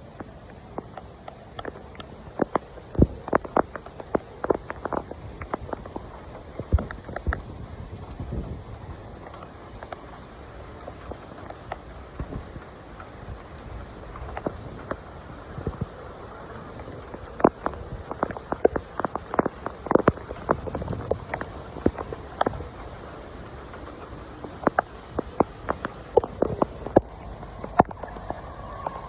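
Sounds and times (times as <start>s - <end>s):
raindrops striking hard surface: 0.0s - 29.0s
heavy rain hissing: 0.2s - 29.0s.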